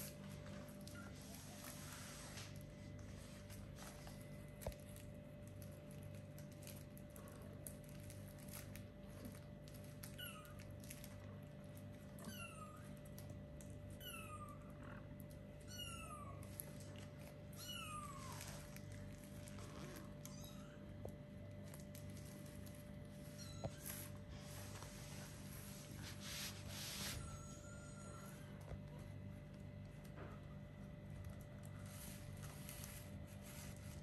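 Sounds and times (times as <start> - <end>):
faint clicks and scratches: 0.0 - 34.0
faint steady hum: 0.0 - 34.0.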